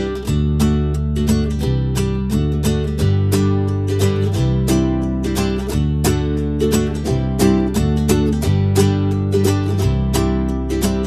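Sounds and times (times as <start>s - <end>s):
acoustic guitar strummed and picked: 0.0s - 11.0s
held bass notes: 0.0s - 11.0s.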